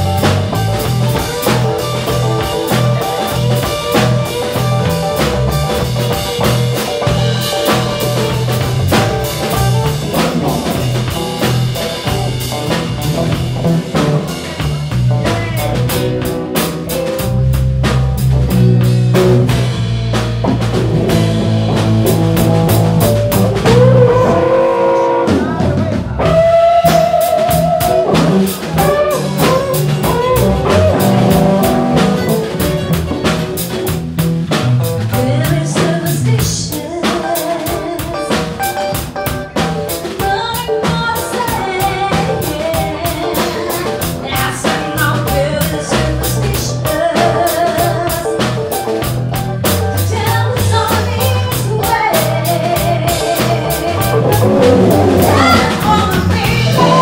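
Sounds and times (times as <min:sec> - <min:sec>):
drum kit beat: 0:00.0 - 0:57.0
electric and acoustic guitars: 0:00.0 - 0:57.0.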